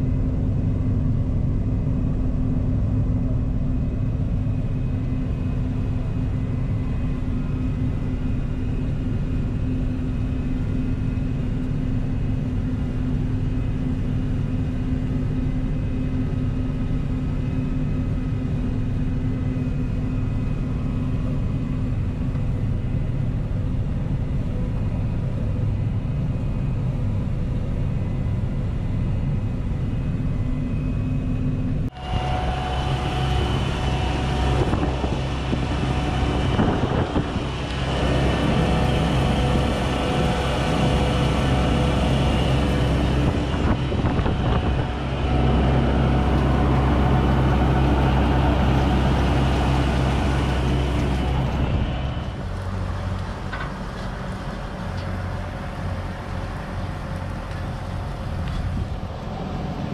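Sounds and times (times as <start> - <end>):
combine harvester rumbling: 0.0 - 59.9
machinery whines: 0.0 - 59.9.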